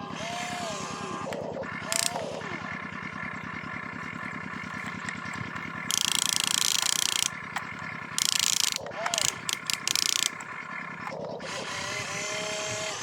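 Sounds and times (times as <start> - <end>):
small electric motor whirring: 0.0 - 13.0
steady low hum: 0.2 - 13.0.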